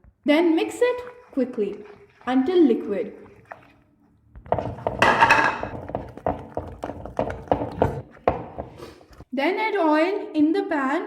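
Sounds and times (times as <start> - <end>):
utensil mixing batter in bowl: 0.3 - 9.3.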